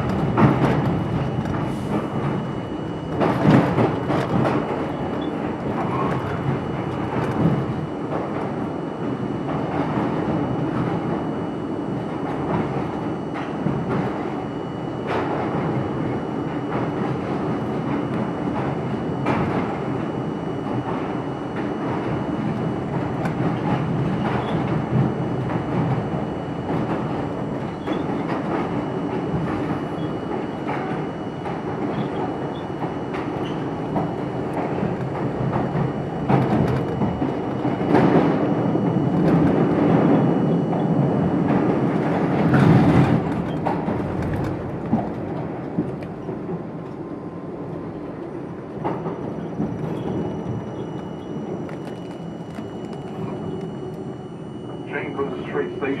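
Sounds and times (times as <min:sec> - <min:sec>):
subway train wheels rumbling: 0:00.0 - 0:56.0.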